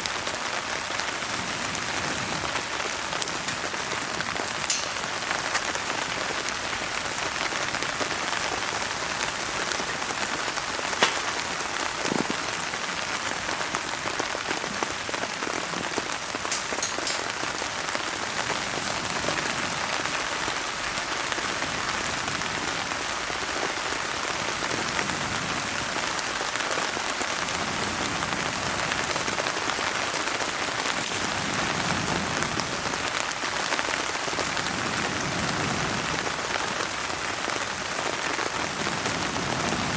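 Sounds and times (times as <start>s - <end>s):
campfire popping and crackling: 0.0s - 39.9s
rain pattering: 0.0s - 39.9s.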